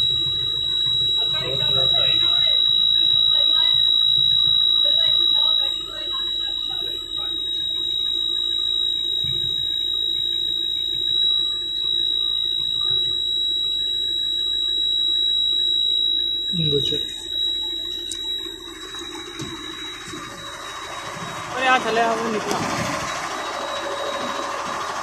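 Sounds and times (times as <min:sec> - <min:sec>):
low steady hum: 0:00.0 - 0:25.0
warning buzzer tone: 0:00.0 - 0:25.0.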